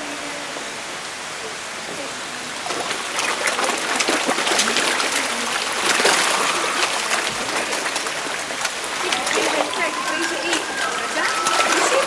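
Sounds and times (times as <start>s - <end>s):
water rushing: 0.0s - 12.0s
fish splashing and slurping: 1.2s - 12.0s.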